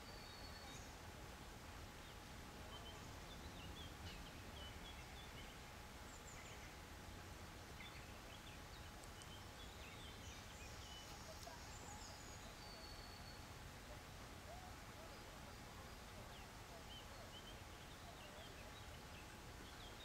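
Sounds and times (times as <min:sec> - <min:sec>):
small birds chirping: 0:00.0 - 0:01.2, 0:01.9 - 0:20.0
low background noise: 0:00.0 - 0:20.0.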